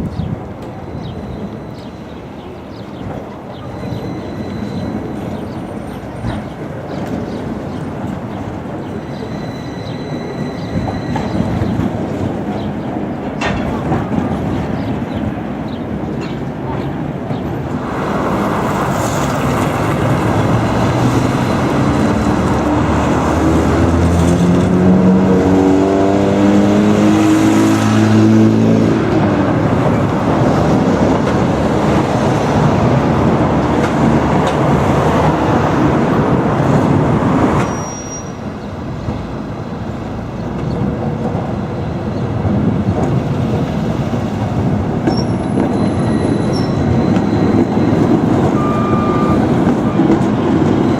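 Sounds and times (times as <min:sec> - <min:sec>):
tram running with rising whine: 0:00.0 - 0:50.9.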